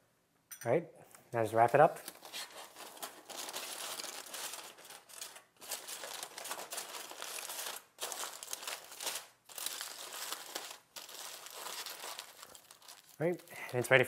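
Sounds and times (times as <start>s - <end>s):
aluminium foil crinkling: 1.6s - 14.0s.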